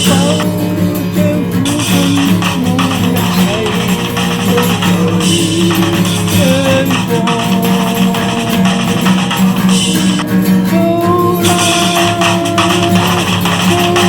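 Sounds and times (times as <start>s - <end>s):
instrumental guitar and drums music: 0.0s - 14.0s.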